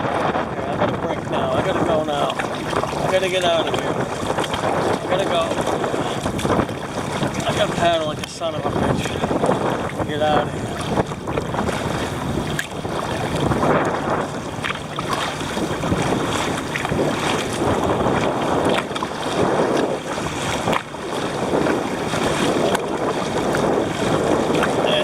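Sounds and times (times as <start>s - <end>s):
paddle strokes: 0.0s - 25.0s
water splashing against hull: 0.0s - 25.0s
wind buffeting microphone: 0.0s - 25.0s.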